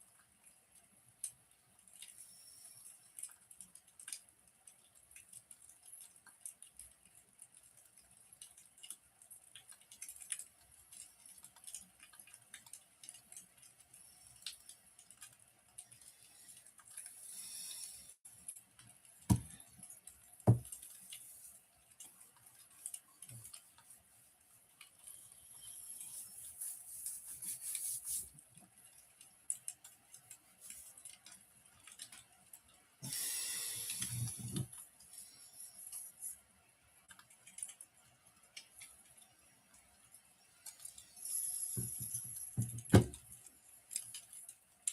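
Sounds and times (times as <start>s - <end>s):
fire hissing softly: 0.0s - 37.4s, 38.0s - 44.9s.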